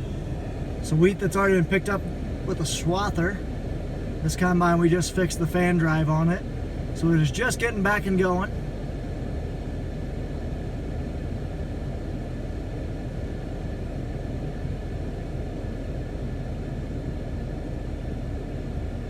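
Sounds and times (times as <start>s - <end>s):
combine harvester rumble: 0.0s - 19.0s
faint steady whine: 0.0s - 19.0s.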